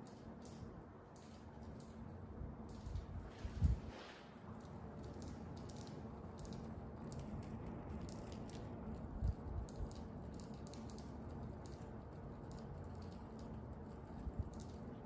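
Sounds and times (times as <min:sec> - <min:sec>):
light clicking and clacking: 0:00.0 - 0:03.8, 0:04.5 - 0:15.0
steady low hum: 0:00.0 - 0:15.0.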